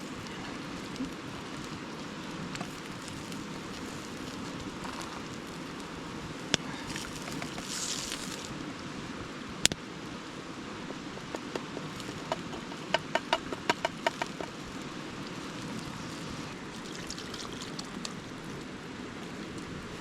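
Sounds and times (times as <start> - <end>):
creek water rushing: 0.0 - 11.1, 11.7 - 20.0.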